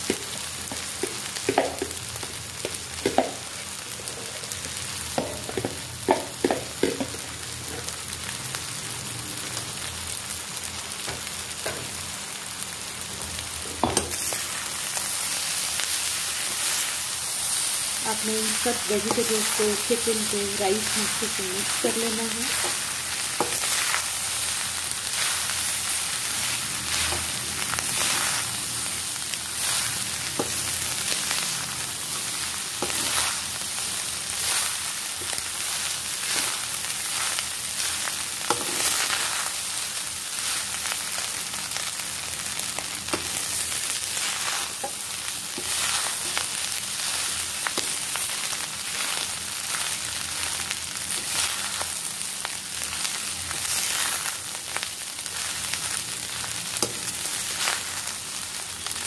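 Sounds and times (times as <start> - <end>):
fried rice sizzling in a pan: 0.0 - 59.0.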